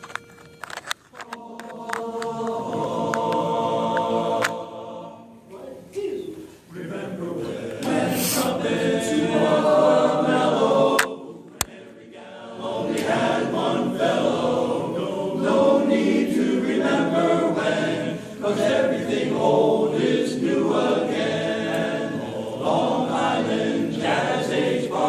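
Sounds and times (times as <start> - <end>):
boys singing in chorus: 1.2 - 5.8, 6.7 - 25.0.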